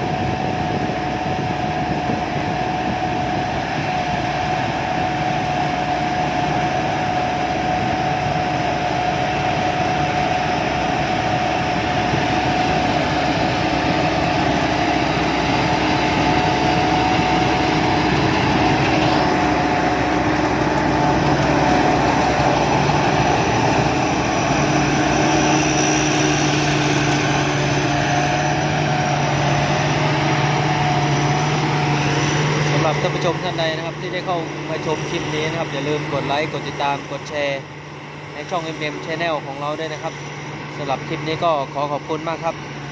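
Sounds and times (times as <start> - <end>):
deep hum: 0.0 - 35.9
combine harvester running: 0.0 - 42.9
constant machinery whine: 0.0 - 42.9.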